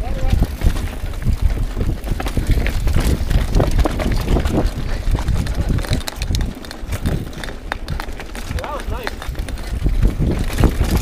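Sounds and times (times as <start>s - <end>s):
bike rattling over rocks: 0.0s - 11.0s
low rumble of tyres: 0.0s - 11.0s
wind on microphone: 0.0s - 11.0s.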